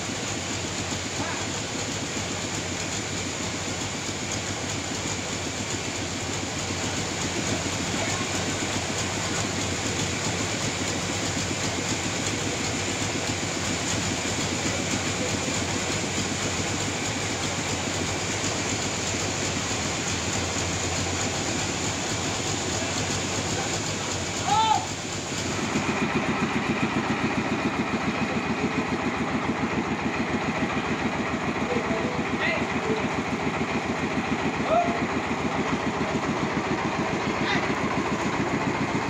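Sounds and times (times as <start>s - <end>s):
sawmill saw cutting log: 0.6s - 39.0s.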